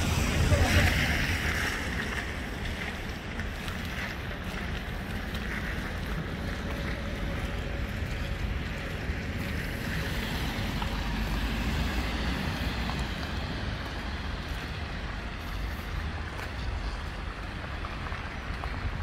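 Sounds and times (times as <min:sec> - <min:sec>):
car tyres hissing on wet road: 0:00.0 - 0:19.0
wind rumble on microphone: 0:00.0 - 0:19.0.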